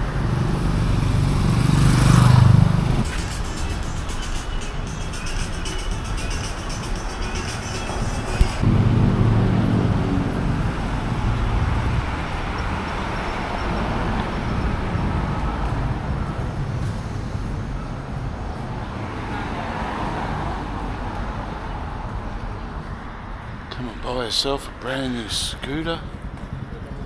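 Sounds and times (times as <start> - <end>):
vehicle engine passing: 0.0 - 22.8
traffic noise: 0.0 - 27.0.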